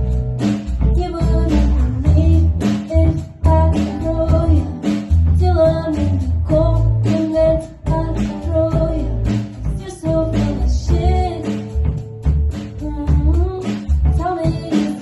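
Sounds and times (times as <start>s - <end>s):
guitar accompaniment: 0.0s - 15.0s
steady bass: 0.0s - 15.0s
woman singing slow song: 0.8s - 11.8s, 12.8s - 15.0s.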